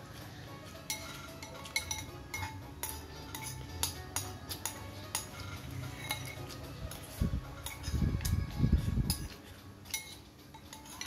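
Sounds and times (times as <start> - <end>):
metal spoon clinking on ceramic bowl: 0.8 - 8.3, 9.1 - 11.0.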